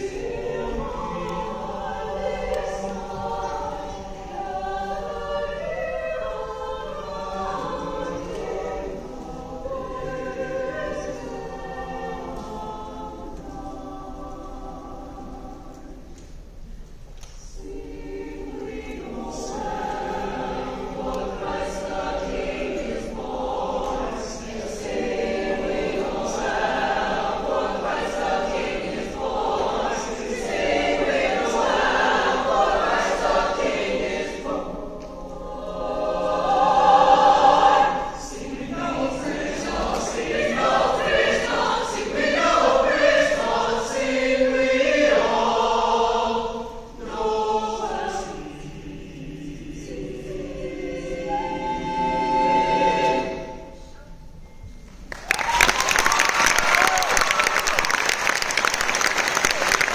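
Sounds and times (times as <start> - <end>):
large choir singing: 0.0 - 59.9.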